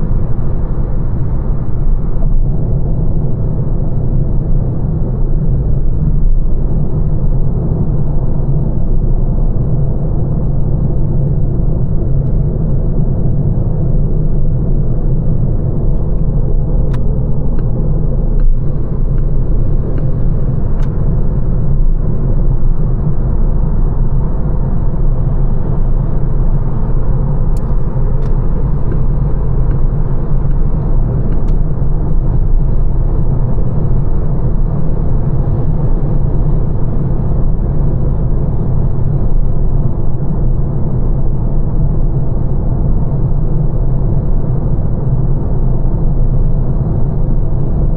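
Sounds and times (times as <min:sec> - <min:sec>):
road and tyre rumble: 0:00.0 - 0:47.9.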